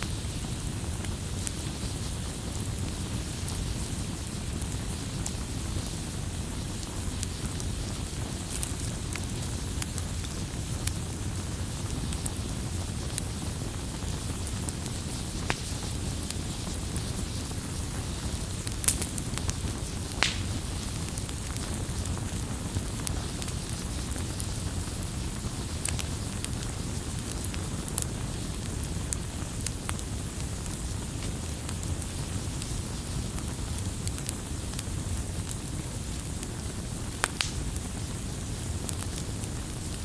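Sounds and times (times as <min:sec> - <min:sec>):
fire crackles and pops: 0:00.0 - 0:40.0
firewood burning: 0:00.0 - 0:40.0.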